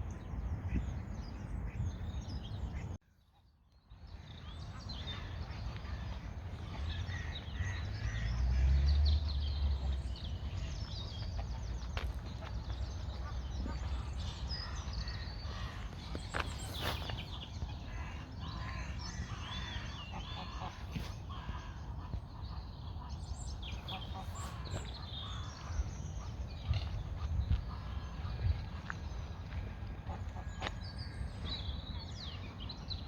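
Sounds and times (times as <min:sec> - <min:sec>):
birds chirping: 0:03.9 - 0:33.0.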